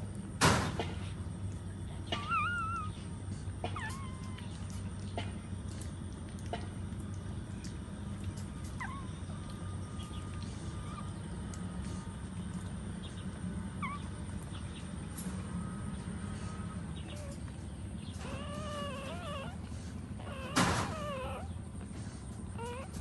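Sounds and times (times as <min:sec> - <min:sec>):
puppies whining and squeaking: 0:01.0 - 0:05.9, 0:07.5 - 0:23.0.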